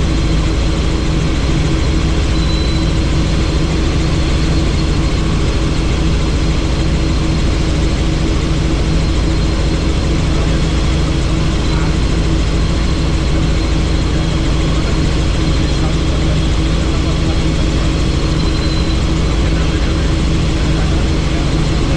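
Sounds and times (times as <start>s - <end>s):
helicopter rotor and engine drone: 0.0s - 21.9s.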